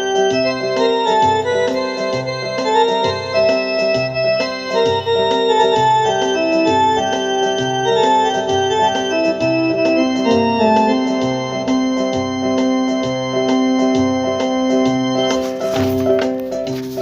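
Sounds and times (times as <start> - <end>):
held chords: 0.0 - 17.0.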